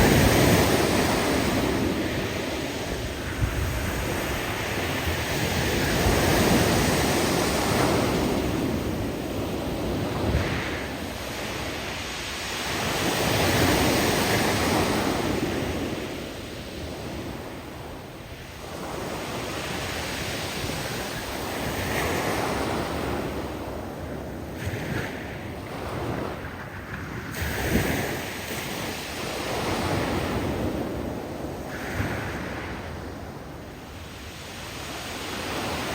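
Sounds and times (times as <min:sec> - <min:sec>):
waves breaking on rocky shore: 0:00.0 - 0:35.9.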